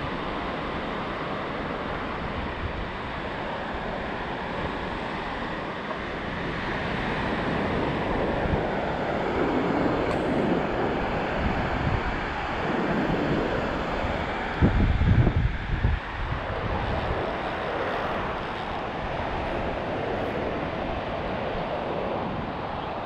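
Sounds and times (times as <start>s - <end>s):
loud low wind buffet: 0.0s - 23.0s
ocean surf washing on beach: 0.0s - 23.0s
wind blowing on microphone: 0.0s - 23.0s.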